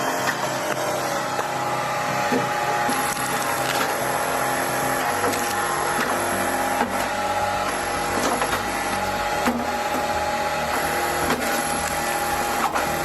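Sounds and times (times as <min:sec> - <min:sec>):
log splitter humming: 0:00.0 - 0:13.0.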